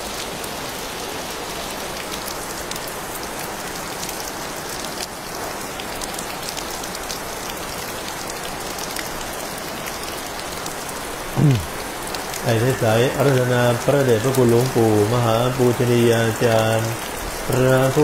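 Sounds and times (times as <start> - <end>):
steady rain: 0.0 - 18.0
raindrops ticking: 2.0 - 18.0.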